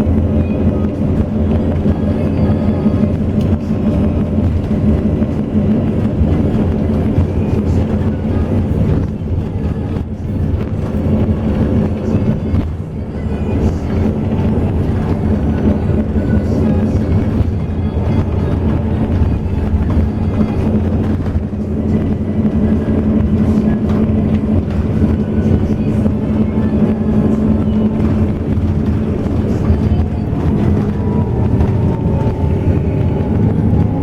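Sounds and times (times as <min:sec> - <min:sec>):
bus engine drone: 0:00.0 - 0:34.0
road noise: 0:00.0 - 0:34.0.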